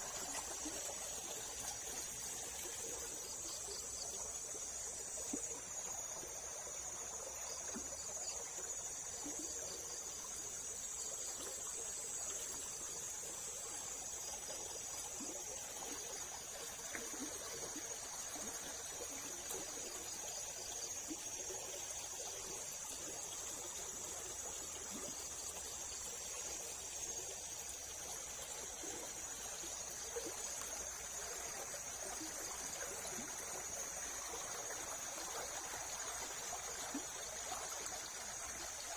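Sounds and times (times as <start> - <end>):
water running and trickling: 0.0 - 38.9.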